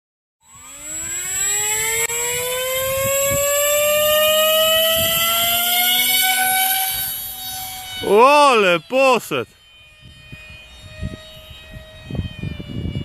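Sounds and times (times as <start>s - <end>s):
electric motor propeller whine: 0.4s - 13.0s.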